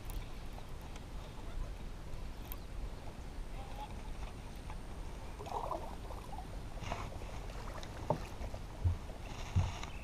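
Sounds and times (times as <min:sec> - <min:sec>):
low wind: 0:00.0 - 0:10.0
water noise: 0:00.0 - 0:10.0.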